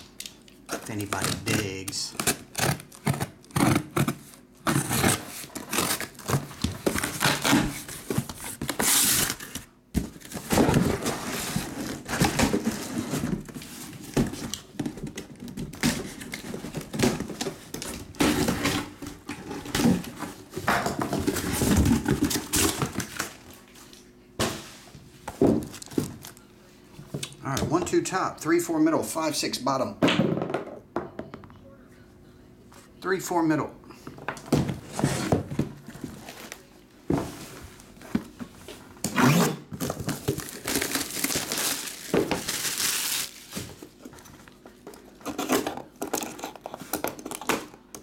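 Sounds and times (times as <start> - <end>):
cardboard and plastic rustling: 0.7 - 26.5, 34.2 - 47.8.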